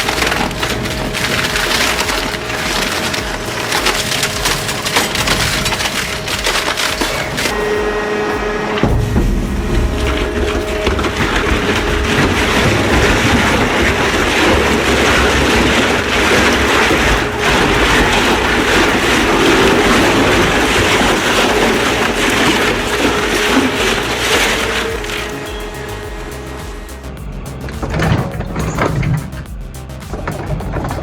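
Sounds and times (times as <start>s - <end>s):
heavy machinery grinding and crushing: 0.0s - 31.0s.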